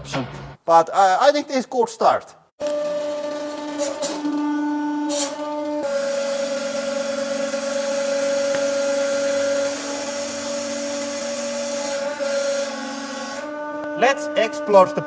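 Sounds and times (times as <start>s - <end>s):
hydraulic pump motor whining: 2.6s - 14.8s.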